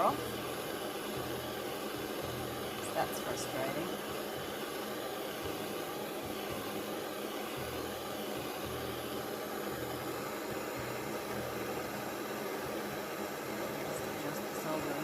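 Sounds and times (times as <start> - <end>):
soldering torch flame hissing: 0.0 - 15.0.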